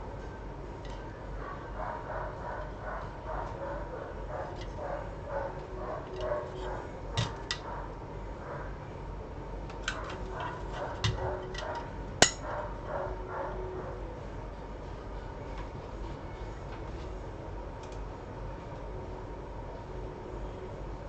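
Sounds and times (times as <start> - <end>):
background hum: 0.0 - 21.0.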